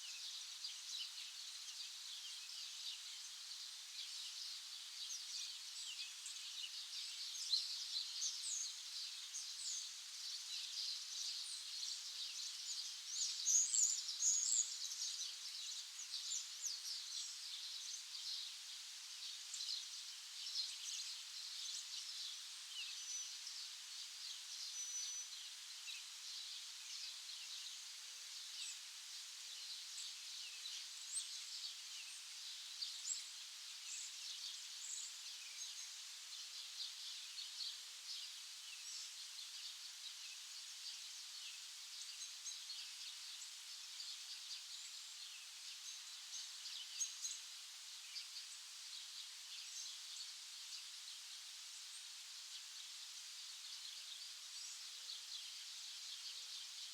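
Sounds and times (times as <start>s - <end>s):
faint steady hiss: 0.0s - 56.9s
small songbirds chirping: 0.0s - 56.9s.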